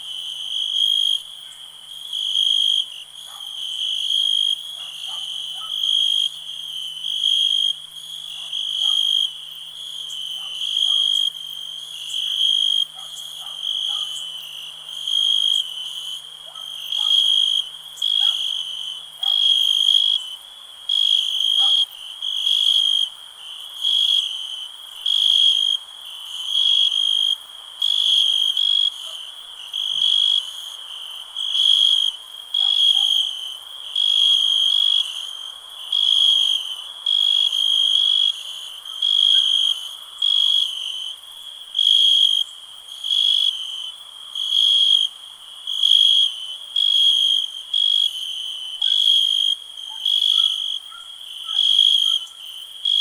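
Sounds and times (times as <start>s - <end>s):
cricket chirping: 0.0s - 53.0s.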